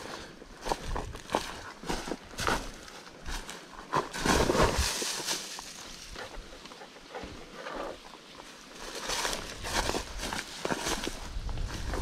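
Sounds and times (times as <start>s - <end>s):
footsteps on dry leaves: 0.0s - 6.6s, 7.9s - 12.0s.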